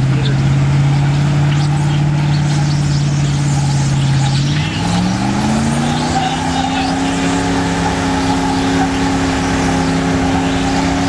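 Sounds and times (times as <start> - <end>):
truck engine under heavy load: 0.0 - 11.0.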